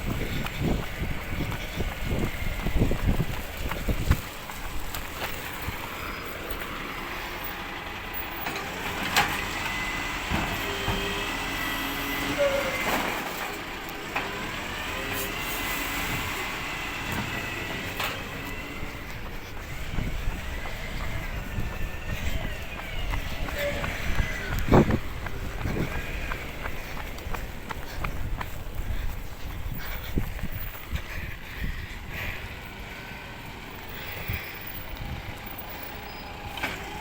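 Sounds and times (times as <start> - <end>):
low engine rumble: 0.0 - 37.0.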